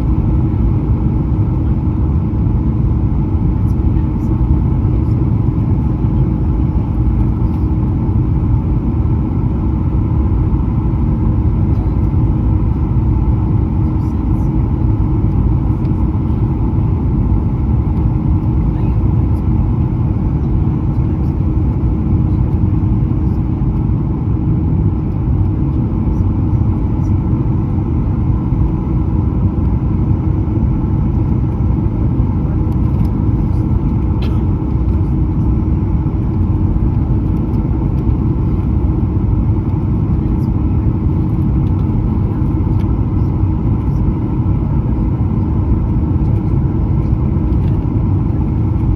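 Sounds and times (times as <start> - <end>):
faint constant hum: 0.0 - 48.9.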